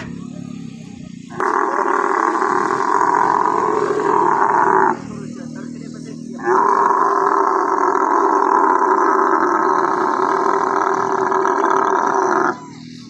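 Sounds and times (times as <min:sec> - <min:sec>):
camel calling: 0:01.3 - 0:05.2, 0:06.3 - 0:13.0.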